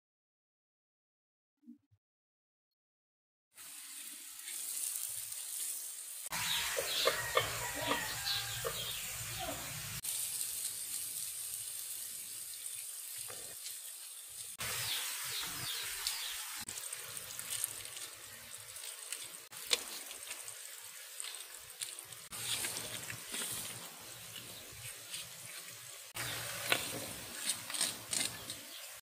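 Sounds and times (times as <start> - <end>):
food sizzling in a pot: 3.6 - 29.0.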